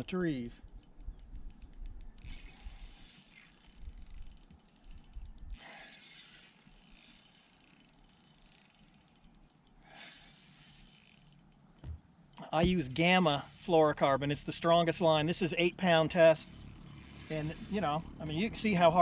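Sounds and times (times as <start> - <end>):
fishing reel drag clicking: 0.0 - 14.8, 15.6 - 19.0.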